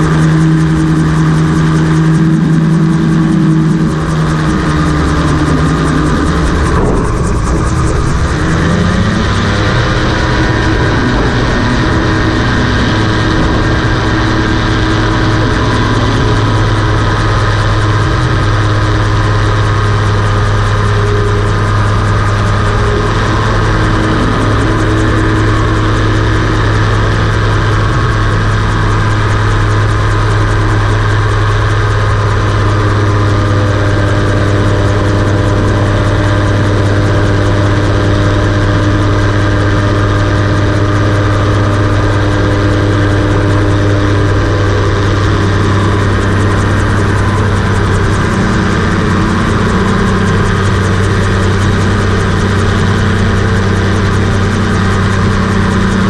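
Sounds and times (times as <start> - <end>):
aircraft engine at high power: 0.0 - 56.0.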